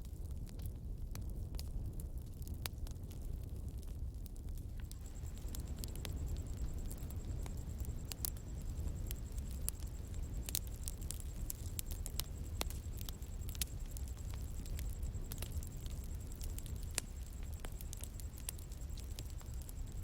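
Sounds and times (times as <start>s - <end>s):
burning wood crackling and popping: 0.0s - 20.0s
low rumble of flames: 0.0s - 20.0s.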